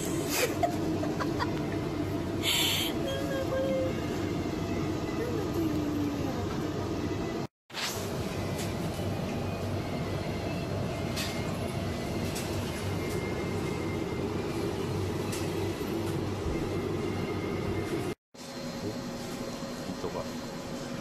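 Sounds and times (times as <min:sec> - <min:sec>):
low rumbling hum: 0:00.0 - 0:18.2.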